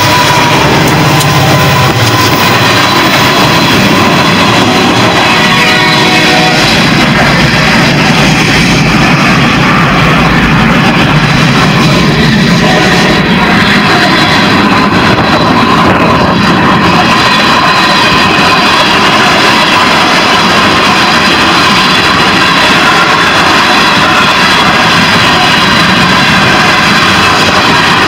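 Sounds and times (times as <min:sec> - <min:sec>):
train wheels roaring on rails: 0:00.0 - 0:28.0.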